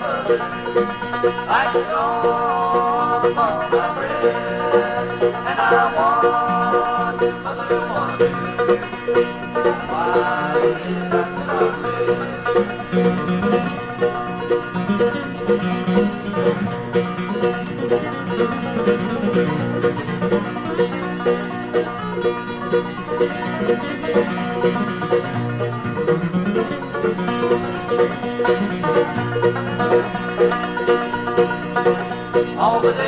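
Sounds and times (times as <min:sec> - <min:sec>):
banjo rolling notes: 0:00.0 - 0:33.0
bluegrass band playing: 0:00.0 - 0:33.0.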